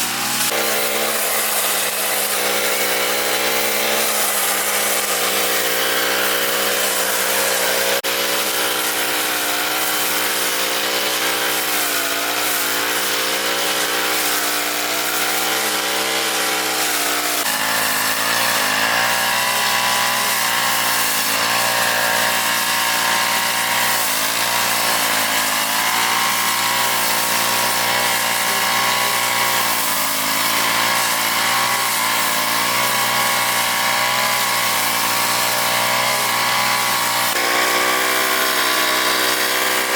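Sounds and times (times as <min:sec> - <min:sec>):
lawn mower engine: 0:00.0 - 0:39.9.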